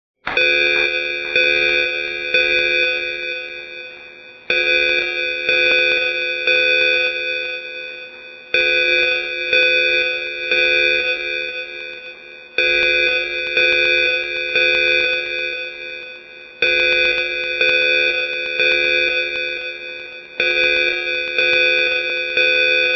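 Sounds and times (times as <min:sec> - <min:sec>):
bell-like alarm chime: 0:00.3 - 0:22.9.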